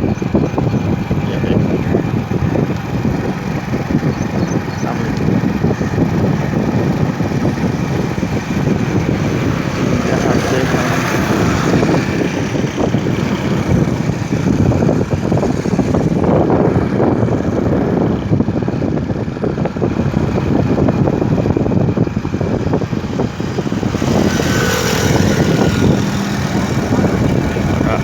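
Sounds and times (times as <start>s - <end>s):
motorcycle running: 0.0s - 28.0s.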